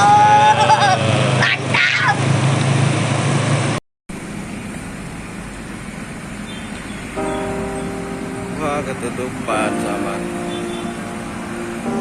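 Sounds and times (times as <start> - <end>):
traffic noise: 0.0 - 12.0
vehicle engine droning: 0.0 - 12.0.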